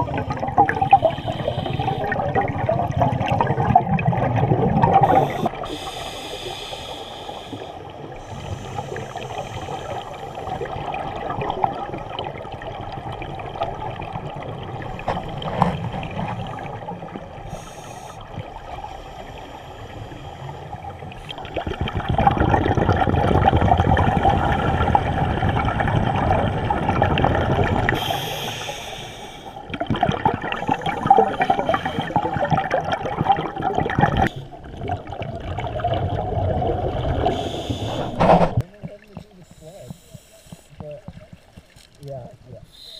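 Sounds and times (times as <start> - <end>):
underwater regulator bubbling: 0.0 - 19.2, 19.8 - 42.9.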